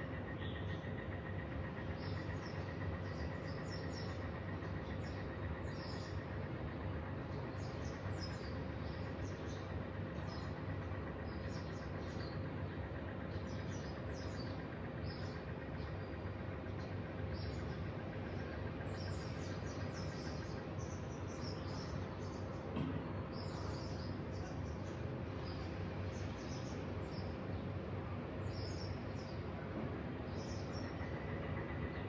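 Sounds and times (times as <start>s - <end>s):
faint constant hum: 0.0s - 32.0s
low background rumble: 0.0s - 32.0s
small birds chirping: 0.0s - 32.0s.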